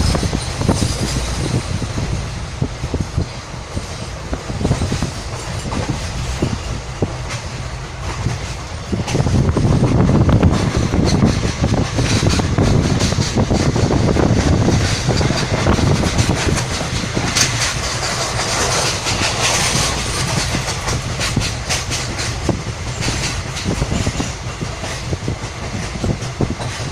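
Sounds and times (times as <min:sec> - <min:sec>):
train carriages rumbling and rattling: 0:00.0 - 0:26.9
wheels clacking over rail joints: 0:00.0 - 0:26.9.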